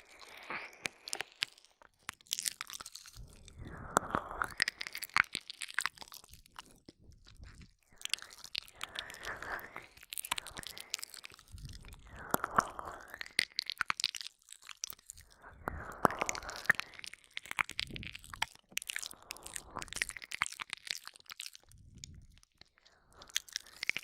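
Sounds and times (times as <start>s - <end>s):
wet ear-licking mouth sounds: 0.0s - 24.0s.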